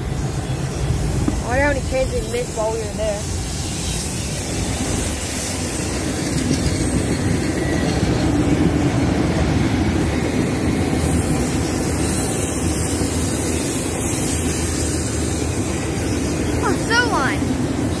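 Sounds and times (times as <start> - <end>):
freight train rolling past: 0.0 - 18.0.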